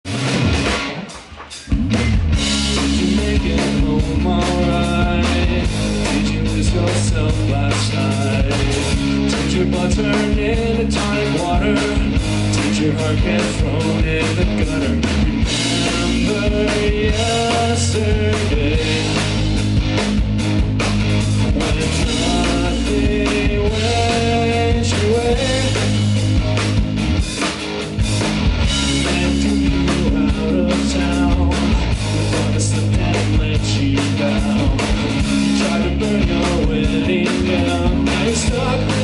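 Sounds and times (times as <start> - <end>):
rock band playing: 0.0 - 39.0
man singing lead vocal: 2.6 - 19.5, 21.4 - 26.1, 28.8 - 39.0.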